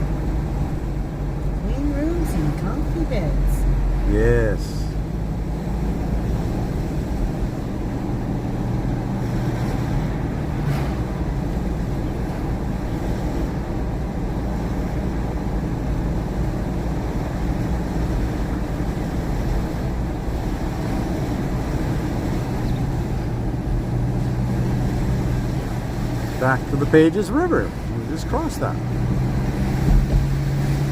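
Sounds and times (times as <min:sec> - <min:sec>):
car engine drone: 0:00.0 - 0:30.9.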